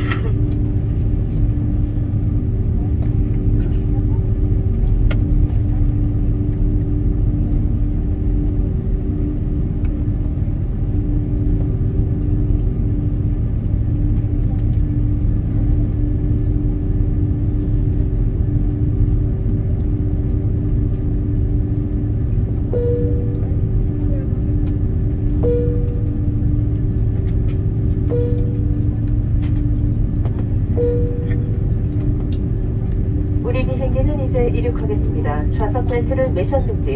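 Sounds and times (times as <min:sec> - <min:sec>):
aircraft engines rumbling: 0:00.0 - 0:36.9.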